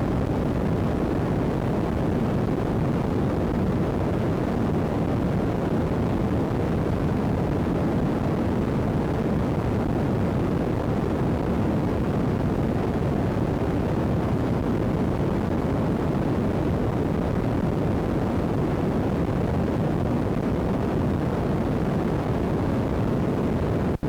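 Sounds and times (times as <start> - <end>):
steady microphone noise: 0.0 - 24.0.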